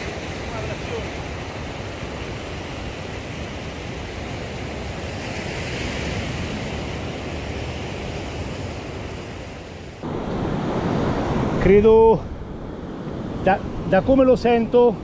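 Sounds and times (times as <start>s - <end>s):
sea surf breaking on beach: 0.0s - 15.0s.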